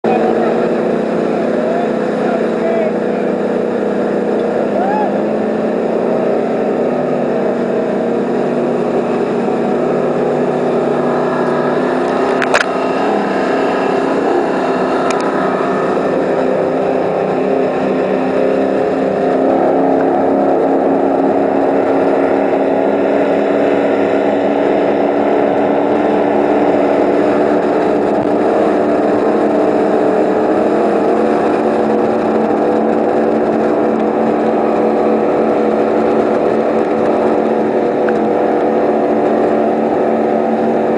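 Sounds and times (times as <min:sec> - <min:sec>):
powerboat engines running: 0:00.0 - 0:40.9.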